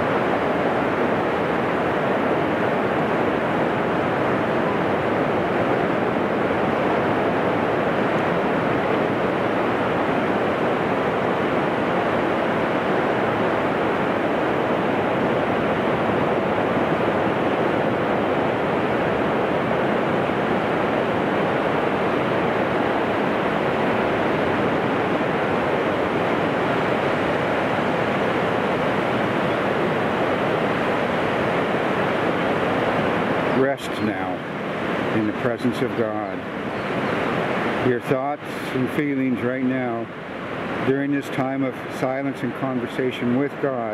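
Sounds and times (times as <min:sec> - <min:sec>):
ocean surf on sandy beach: 0:00.0 - 0:43.9.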